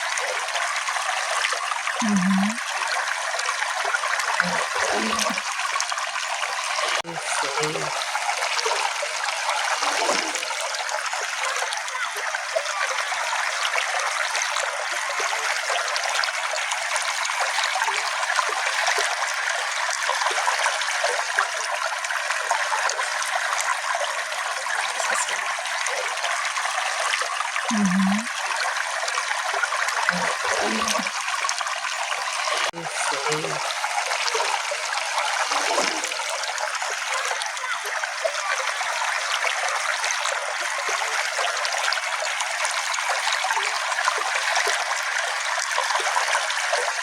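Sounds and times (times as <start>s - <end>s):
brook water rushing and trickling: 0.0s - 47.0s
deep water gurgles: 0.0s - 47.0s.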